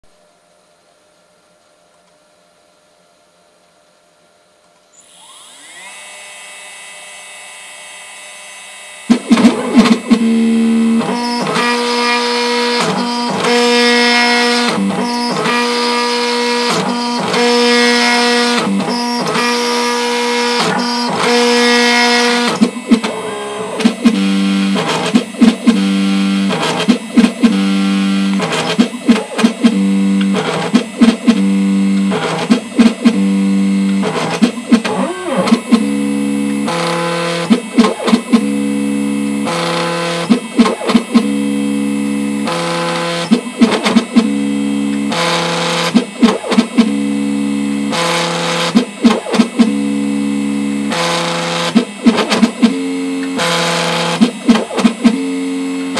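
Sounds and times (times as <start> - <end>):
machine whine: 4.9 - 55.9.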